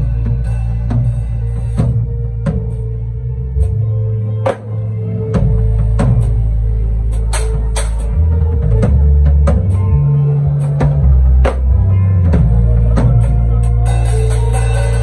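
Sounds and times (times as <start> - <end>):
low sustained bass notes: 0.0 - 15.0.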